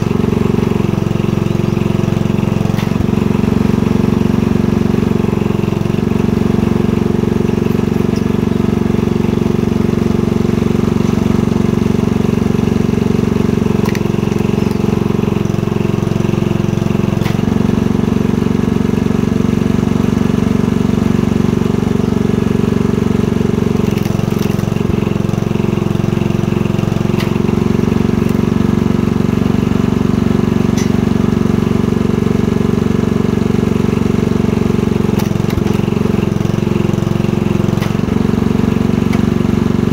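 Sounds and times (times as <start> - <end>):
petrol engine running: 0.0 - 39.9.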